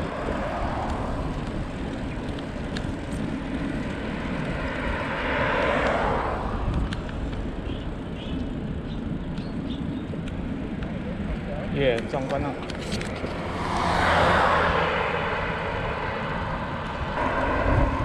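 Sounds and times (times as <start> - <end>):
car passing: 0.0 - 18.0
wind rumbling on microphone: 0.0 - 18.0.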